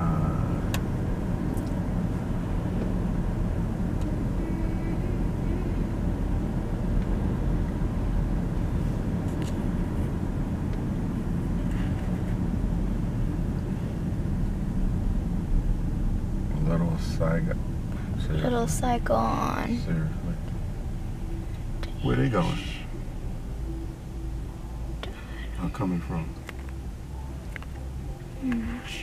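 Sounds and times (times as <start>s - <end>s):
car driving interior rumble: 0.0s - 29.0s.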